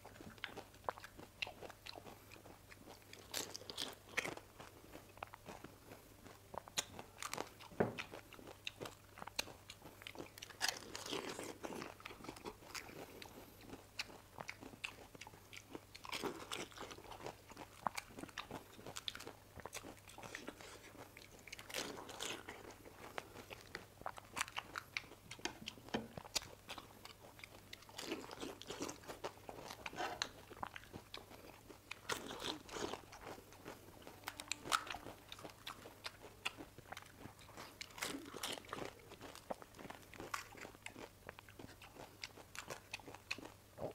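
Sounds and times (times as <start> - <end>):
crunching and chewing crisp shells: 0.0 - 43.9.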